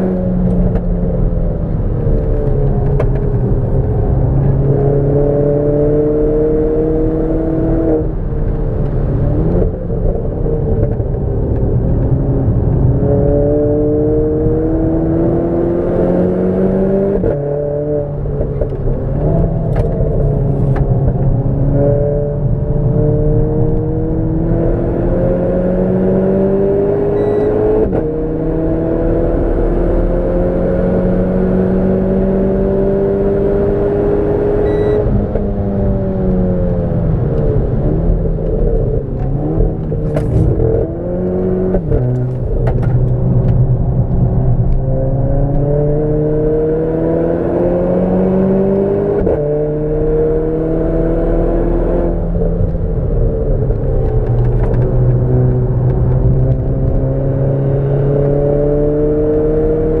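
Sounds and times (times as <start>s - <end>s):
car engine revving and braking: 0.0s - 60.0s.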